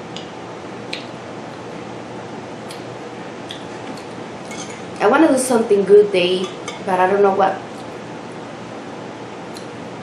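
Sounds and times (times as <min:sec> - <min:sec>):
room noise hiss: 0:00.0 - 0:10.0.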